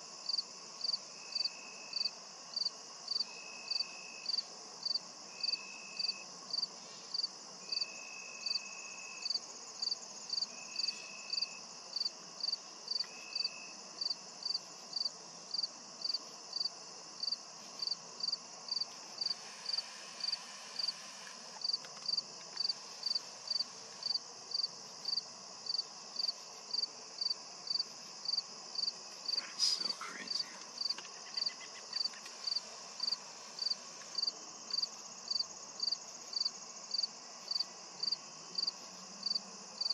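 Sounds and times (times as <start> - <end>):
continuous high insect trill: 0.0 - 39.9
cricket chirping: 0.0 - 39.9
second insect trill: 0.2 - 39.9.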